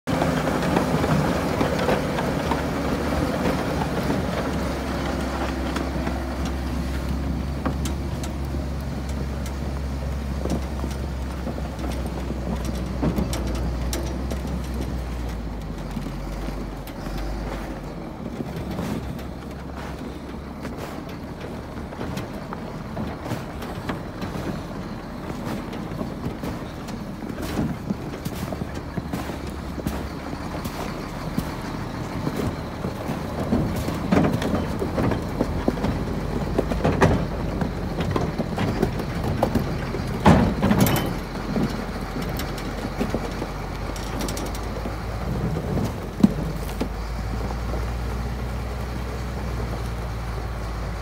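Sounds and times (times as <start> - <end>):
bulldozer diesel engine drone: 0.0 - 51.0
rough engine rumble: 0.0 - 51.0.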